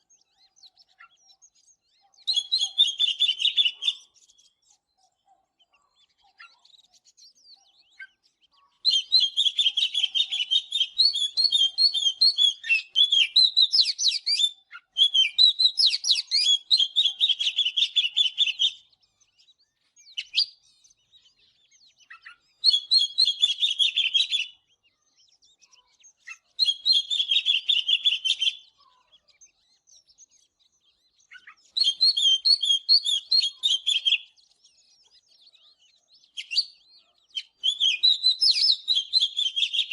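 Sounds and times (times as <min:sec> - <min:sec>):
bird singing high whistled notes: 0:00.0 - 0:04.8, 0:05.7 - 0:39.9.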